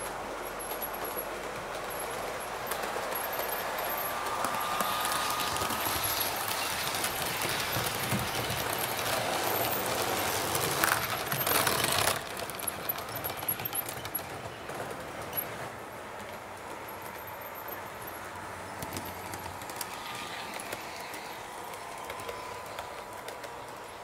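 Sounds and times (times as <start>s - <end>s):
model train wheels clattering on track: 0.0s - 24.0s.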